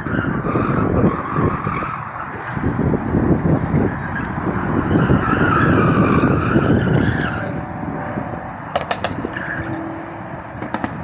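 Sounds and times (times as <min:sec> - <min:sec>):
car engine under load: 0:00.0 - 0:11.0
tires squealing: 0:00.0 - 0:11.0.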